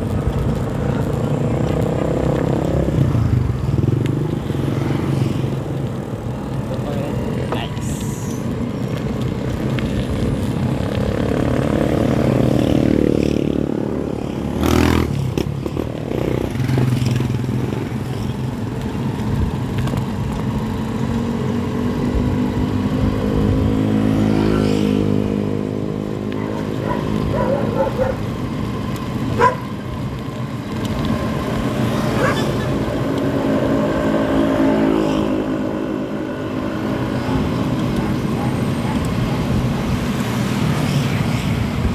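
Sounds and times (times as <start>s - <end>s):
motorcycle engine running: 0.0s - 40.9s
road noise: 0.0s - 41.9s.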